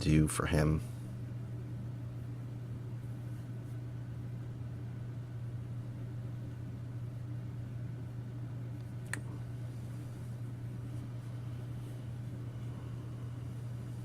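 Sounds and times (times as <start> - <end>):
low room hum with hiss: 0.0 - 14.0.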